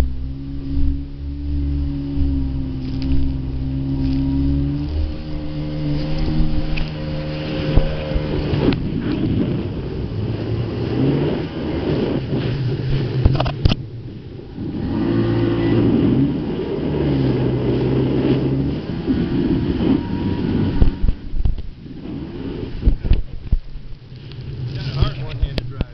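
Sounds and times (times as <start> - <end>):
jet ski engine revving: 0.0 - 25.9.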